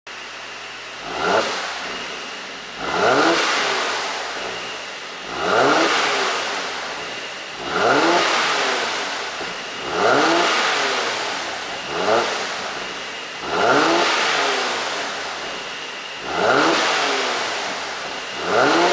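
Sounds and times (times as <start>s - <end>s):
car engine revving with crackles: 0.1s - 18.9s.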